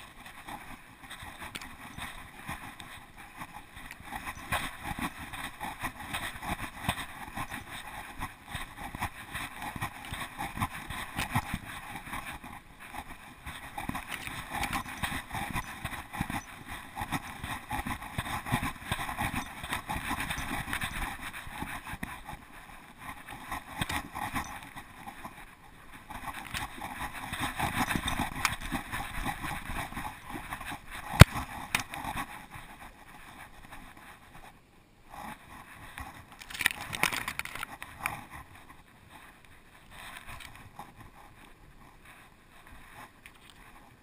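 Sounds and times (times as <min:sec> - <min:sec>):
camera rustling and scraping: 0:00.0 - 0:44.0.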